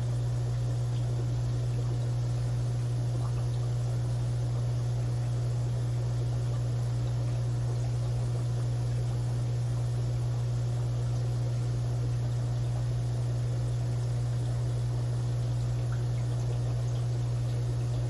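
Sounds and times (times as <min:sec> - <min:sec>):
aquarium pump humming: 0:00.0 - 0:18.0.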